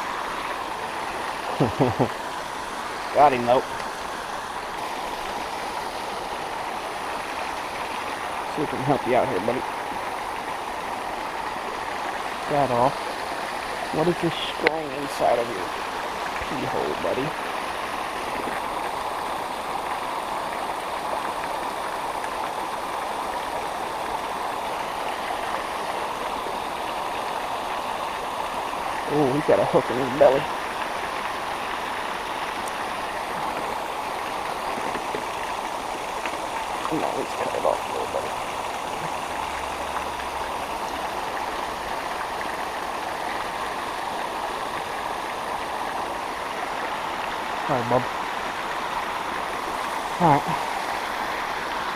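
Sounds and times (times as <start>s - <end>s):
creek water running: 0.0s - 51.9s.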